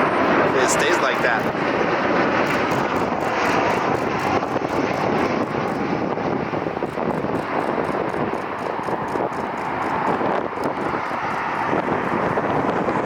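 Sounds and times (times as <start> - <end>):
airliner engines rushing: 0.0 - 13.0
wind on microphone: 0.0 - 13.0.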